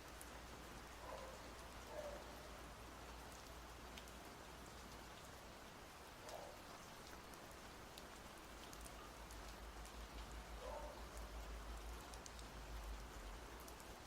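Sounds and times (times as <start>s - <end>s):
faint steady rain hiss: 0.0s - 14.0s.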